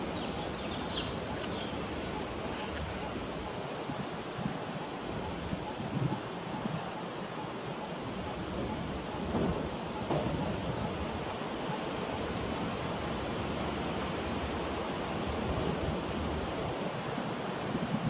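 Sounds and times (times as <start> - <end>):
wind rumble on microphone: 0.0 - 7.0, 8.0 - 18.0
wind through trees: 0.0 - 18.0.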